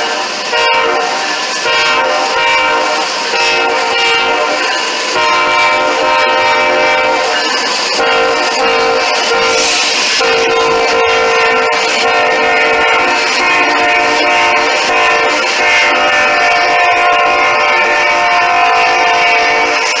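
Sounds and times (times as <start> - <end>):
locomotive air horn chord: 0.0 - 7.4, 8.0 - 20.0.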